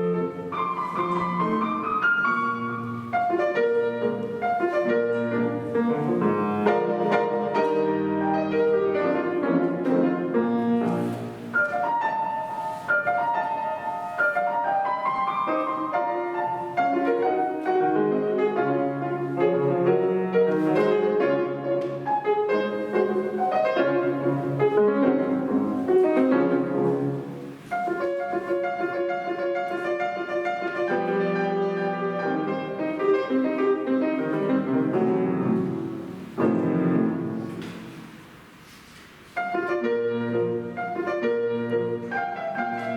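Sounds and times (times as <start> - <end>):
solo piano classical piece: 0.0 - 42.9.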